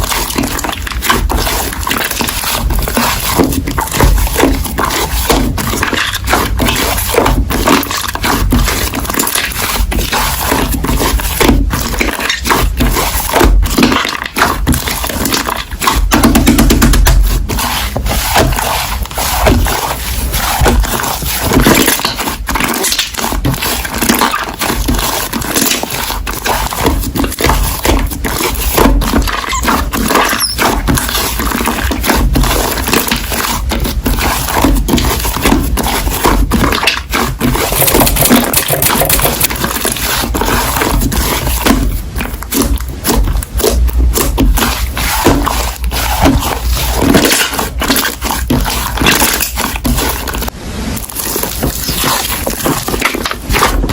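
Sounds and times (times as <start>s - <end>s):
slime squished by hand: 0.0s - 53.9s.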